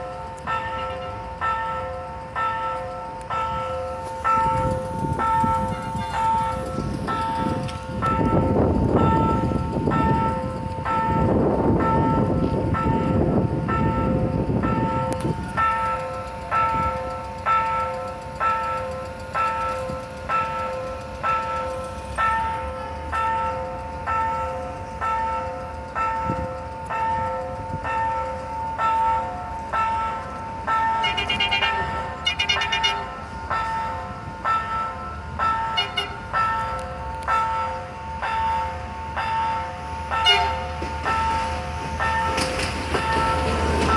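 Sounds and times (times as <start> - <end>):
level-crossing warning bell: 0.0 - 43.9
rumble of passing train: 0.0 - 43.9.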